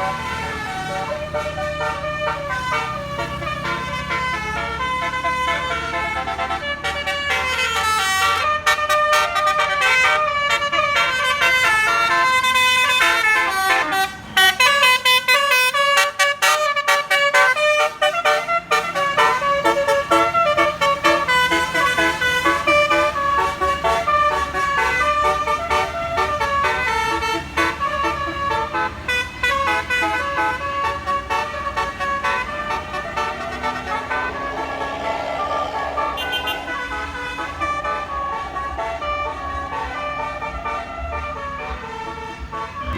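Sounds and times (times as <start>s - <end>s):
bus engine running: 0.0s - 42.9s
musical bus air horn melody: 0.0s - 42.9s.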